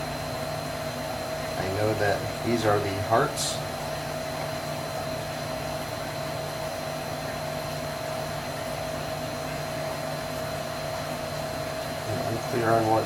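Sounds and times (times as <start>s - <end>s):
motor or fan whirring: 0.0s - 13.0s.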